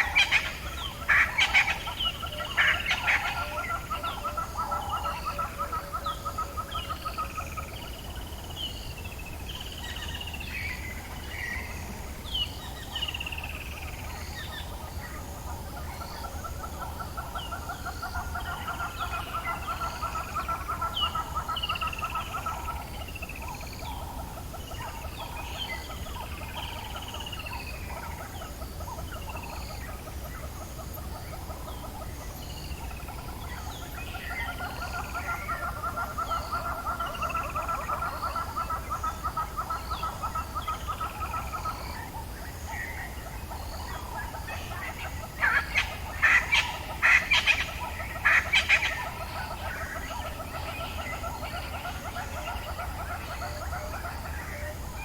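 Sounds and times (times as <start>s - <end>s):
birds calling with whistled notes: 0.0s - 55.0s.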